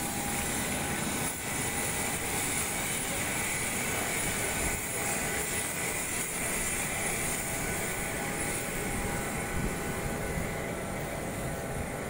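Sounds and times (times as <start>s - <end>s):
jet turbine rushing: 0.0s - 12.0s.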